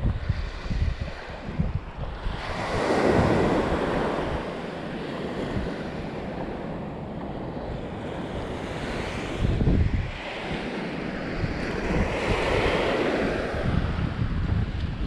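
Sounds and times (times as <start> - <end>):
small waves washing onto sand: 0.0 - 15.0
wind rumbling on microphone: 0.0 - 15.0.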